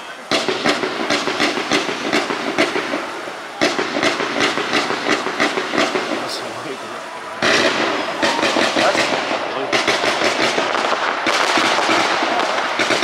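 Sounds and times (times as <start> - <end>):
fireworks banging: 0.0 - 13.0.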